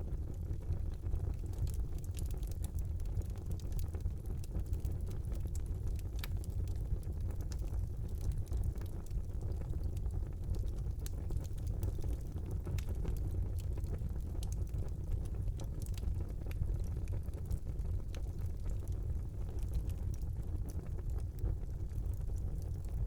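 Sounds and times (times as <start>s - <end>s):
fire burning in fireplace: 0.0s - 23.0s
fire crackling and popping: 0.0s - 23.0s.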